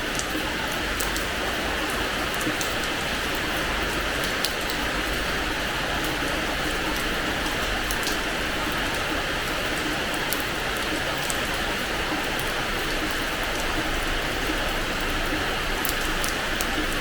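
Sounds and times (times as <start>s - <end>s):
rain hissing on hard floor: 0.0s - 17.0s
raindrops tapping: 0.0s - 17.0s.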